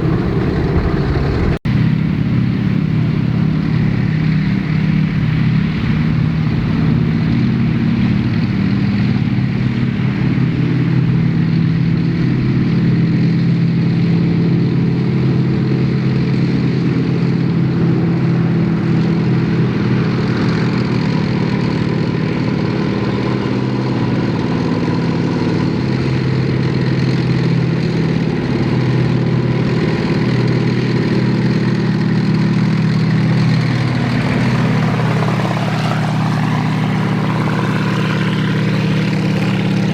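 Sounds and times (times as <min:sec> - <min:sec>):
heavy vehicle engines running: 0:00.0 - 0:39.9.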